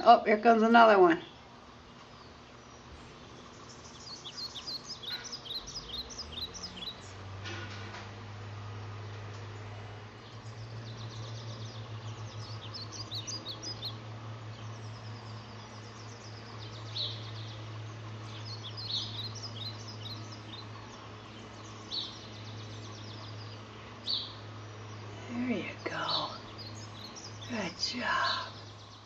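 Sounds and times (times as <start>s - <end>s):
small birds chirping: 0.0s - 7.4s, 8.1s - 29.0s
steady low hum: 0.0s - 29.0s.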